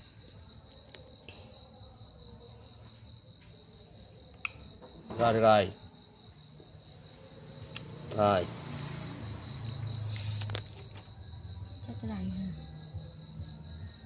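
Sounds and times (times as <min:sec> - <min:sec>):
pulsing insect trill: 0:00.0 - 0:14.0.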